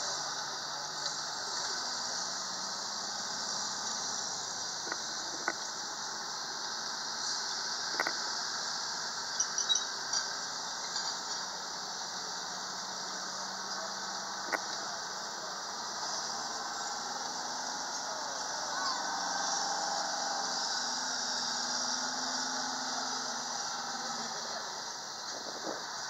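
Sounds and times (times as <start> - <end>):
vehicle rumble: 0.0 - 26.0.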